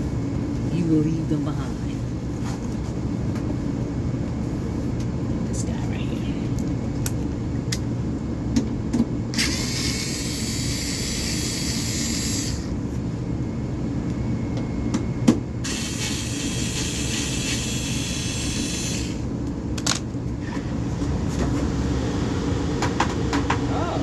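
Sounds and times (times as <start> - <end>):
hvac equipment humming: 0.0 - 24.0.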